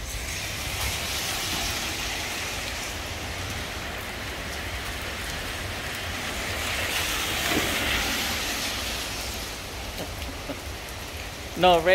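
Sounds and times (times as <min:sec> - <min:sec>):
heavy rain on pavement: 0:00.0 - 0:11.9.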